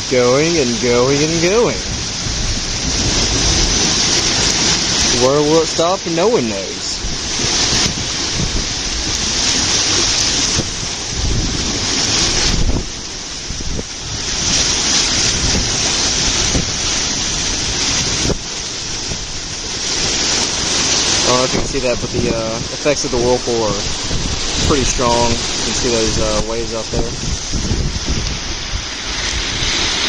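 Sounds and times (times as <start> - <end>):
water rushing in whirlpool: 0.0 - 30.0
wind buffeting microphone: 0.0 - 30.0.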